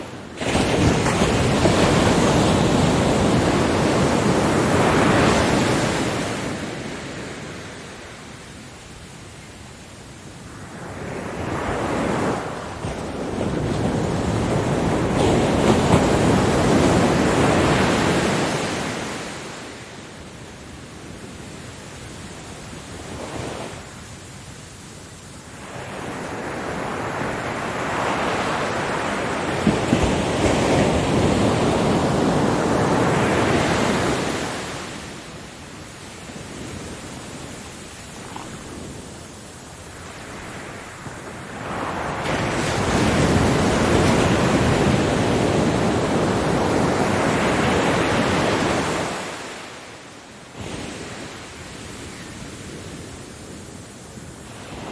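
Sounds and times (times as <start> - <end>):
hiss of receding surf: 0.0 - 54.9
ocean waves breaking: 0.0 - 54.9.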